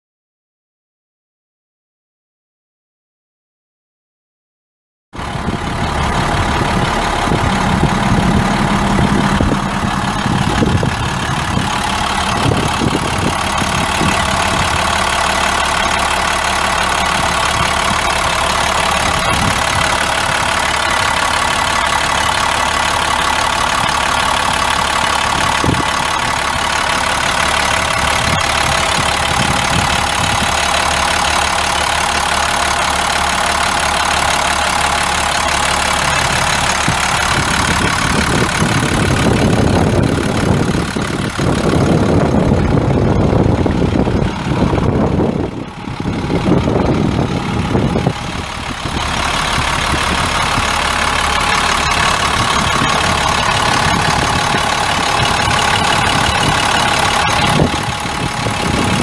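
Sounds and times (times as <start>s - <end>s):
diesel engine idling: 5.2s - 59.0s.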